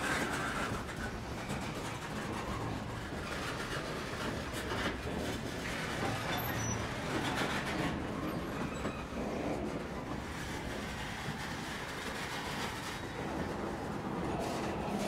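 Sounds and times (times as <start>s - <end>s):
train cars knocking and clanking: 0.0s - 15.0s
train wheels rumbling on rail: 0.0s - 15.0s.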